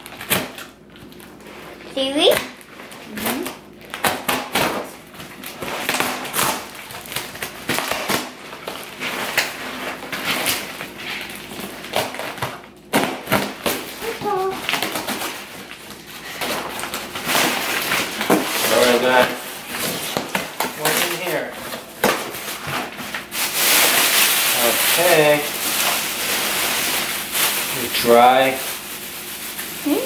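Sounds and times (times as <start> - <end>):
packing tape and cardboard ripping: 0.0 - 30.0.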